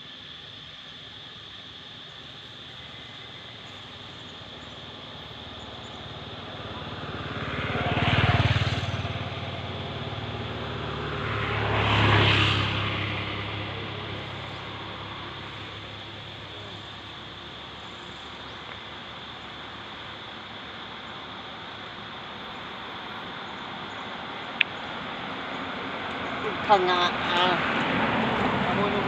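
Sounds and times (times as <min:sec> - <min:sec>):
outdoor background noise: 0:00.0 - 0:29.0
passing vehicle engine: 0:04.0 - 0:29.0.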